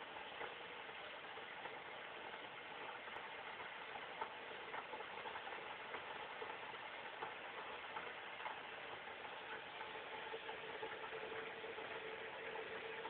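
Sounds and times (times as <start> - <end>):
background hiss: 0.0 - 13.0
faint hum: 0.0 - 13.0.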